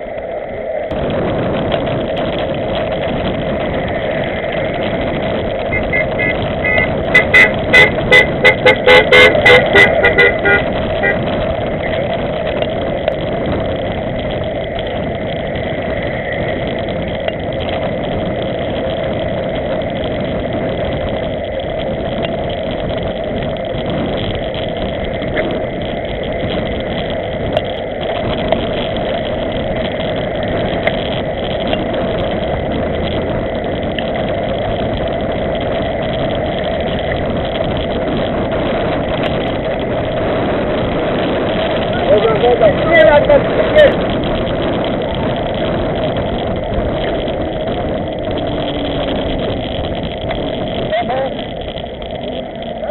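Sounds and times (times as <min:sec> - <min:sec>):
bike tyres on brick paving: 0:00.0 - 0:52.9
wind rushing: 0:00.0 - 0:52.9.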